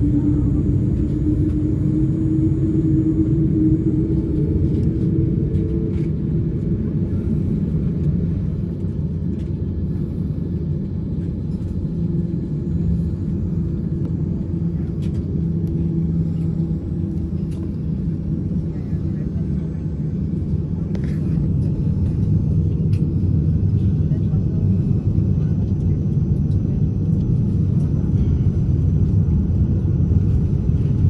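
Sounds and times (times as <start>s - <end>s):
jet engine starting rumble: 0.0s - 31.0s.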